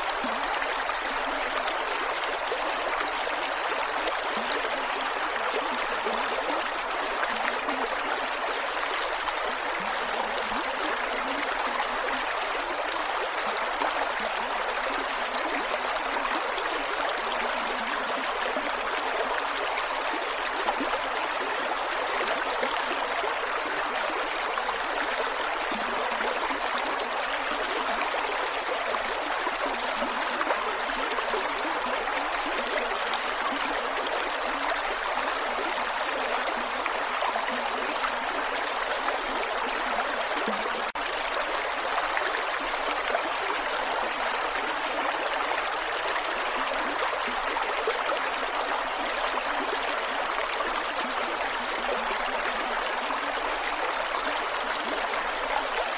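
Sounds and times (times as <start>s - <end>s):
creek gurgling over rocks: 0.0s - 55.9s.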